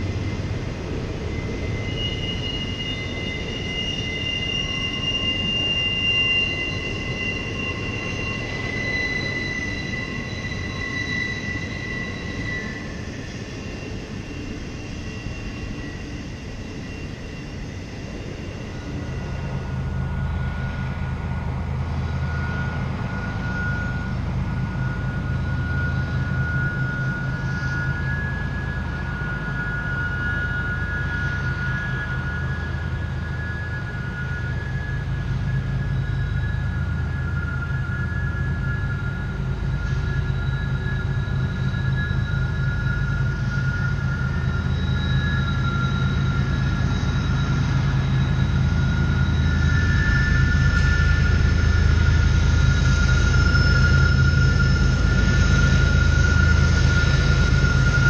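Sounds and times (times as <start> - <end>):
diesel locomotive drone: 0.0 - 58.0
train wheels squealing on rail: 0.0 - 58.0.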